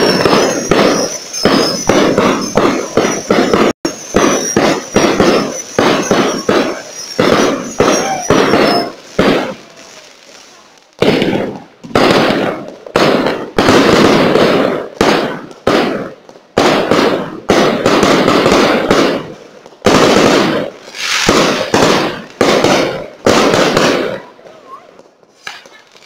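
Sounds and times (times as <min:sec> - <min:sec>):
firework shells bursting: 0:00.0 - 0:26.0.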